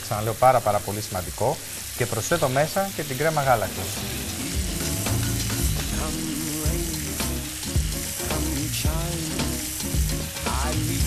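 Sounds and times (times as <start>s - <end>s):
caramel bubbling and sizzling: 0.0s - 11.0s.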